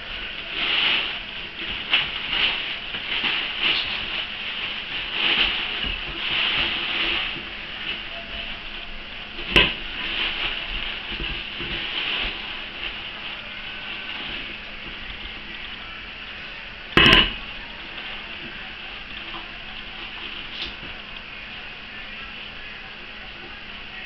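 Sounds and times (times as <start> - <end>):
plastic bags crinkling in a pot: 0.0 - 24.0.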